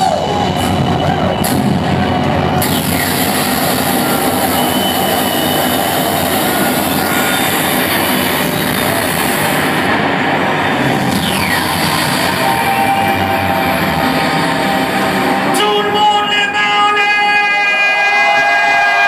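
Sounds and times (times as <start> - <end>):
loud house music: 0.0 - 19.0.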